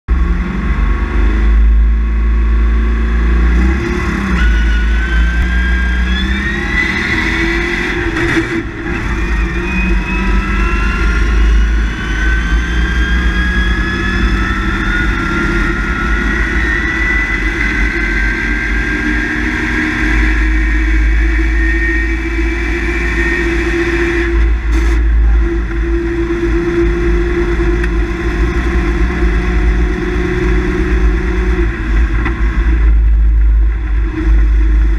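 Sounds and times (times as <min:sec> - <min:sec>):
rally car engine revving: 0:00.1 - 0:34.9.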